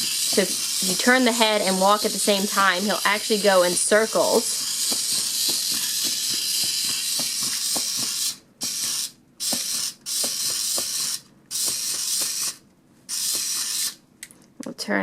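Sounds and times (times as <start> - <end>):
tiny motor whirring: 0.0 - 14.0.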